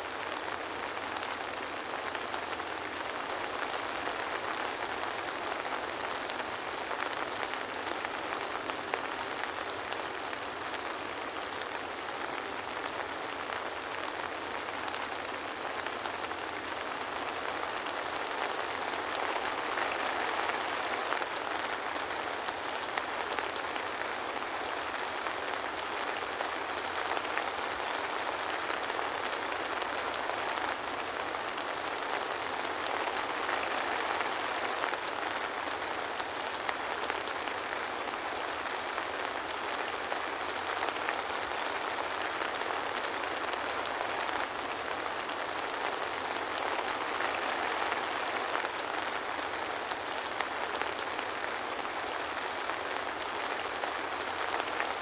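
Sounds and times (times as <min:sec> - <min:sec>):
rain pattering on hard surface: 0:00.1 - 0:55.0.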